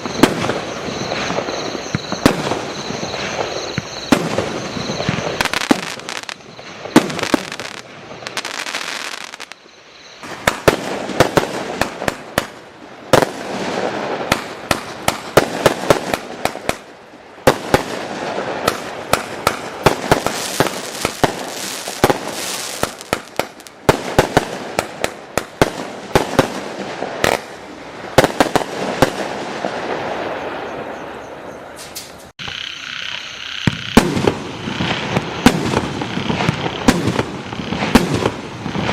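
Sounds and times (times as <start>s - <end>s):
fireworks bursting: 0.0s - 31.2s, 31.8s - 38.9s.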